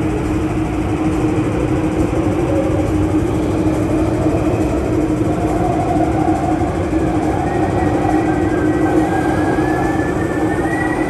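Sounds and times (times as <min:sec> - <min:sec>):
low hum from train: 0:00.0 - 0:11.0
train wheels rumbling on rail: 0:00.0 - 0:11.0.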